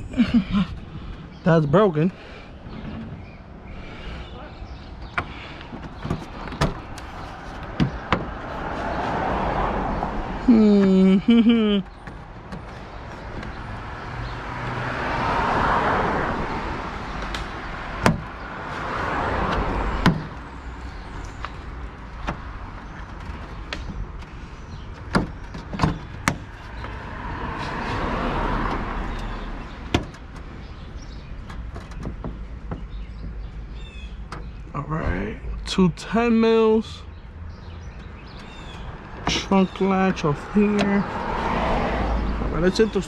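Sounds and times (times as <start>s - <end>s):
cars passing by: 0.0s - 43.0s.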